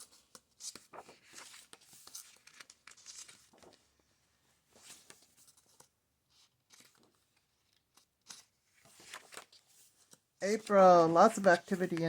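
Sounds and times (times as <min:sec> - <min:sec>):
book pages rustling: 0:00.0 - 0:12.0.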